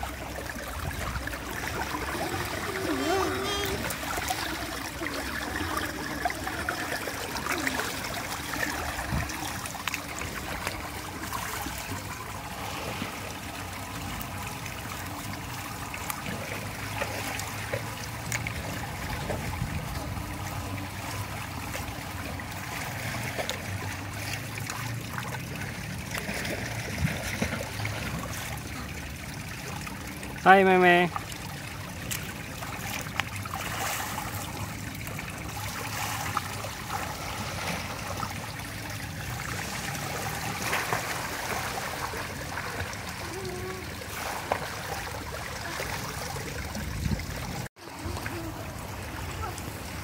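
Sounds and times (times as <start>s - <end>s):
pool water lapping: 0.0s - 50.0s
small water splashes: 0.0s - 50.0s.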